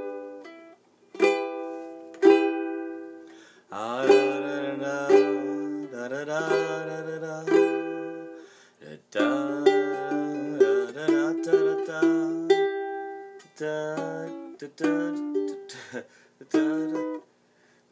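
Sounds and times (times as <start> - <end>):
strummed string instrument chords: 0.0 - 8.5, 9.1 - 15.8.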